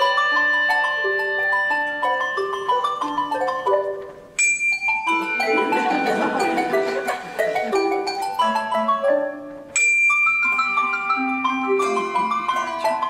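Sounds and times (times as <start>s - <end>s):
handbells playing brisk tune: 0.0s - 13.0s.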